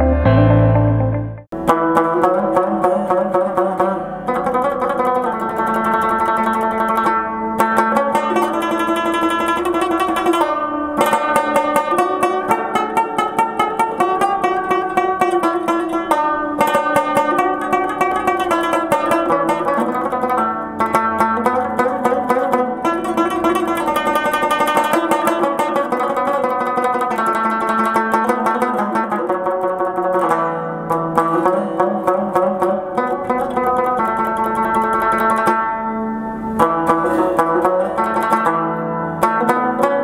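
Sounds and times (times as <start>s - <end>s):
plucked string instrument melody: 0.0s - 40.0s.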